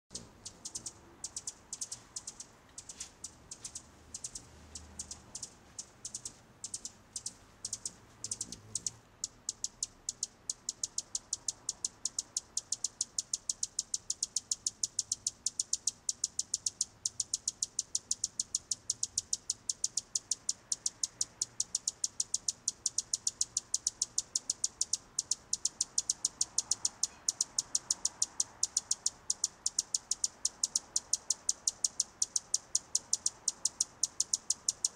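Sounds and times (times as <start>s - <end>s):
tiny high-pitched bird peeps: 0.1s - 34.9s.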